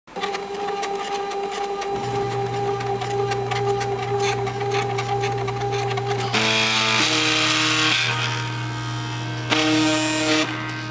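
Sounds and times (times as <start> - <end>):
stepper motors whining: 0.1 - 10.9
low steady hum: 0.6 - 9.5.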